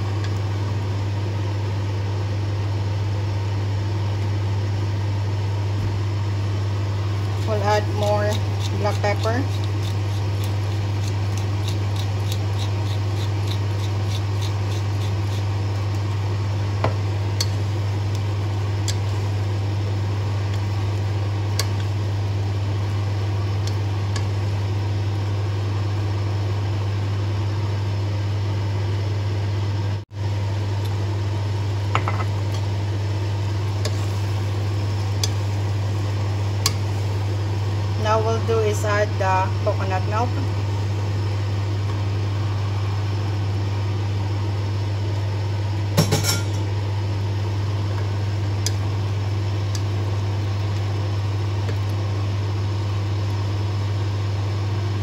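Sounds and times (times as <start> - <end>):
low hum with hiss: 0.0 - 55.0.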